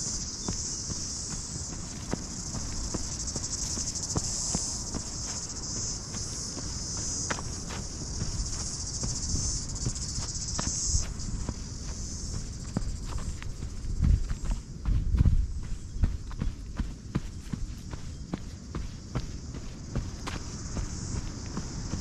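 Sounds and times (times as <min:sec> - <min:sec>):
footfalls on a dirt trail: 0:00.0 - 0:22.0
insects chirring: 0:00.0 - 0:22.0.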